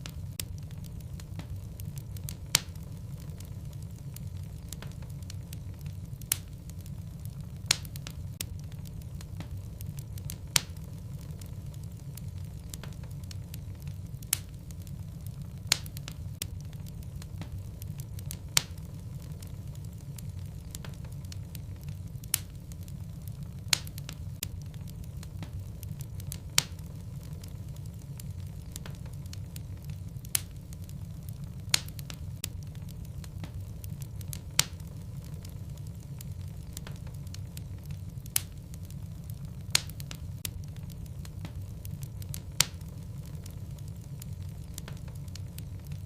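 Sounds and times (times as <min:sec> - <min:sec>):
low rumble of flame: 0:00.0 - 0:46.0
wood fire crackling and popping: 0:00.0 - 0:46.0.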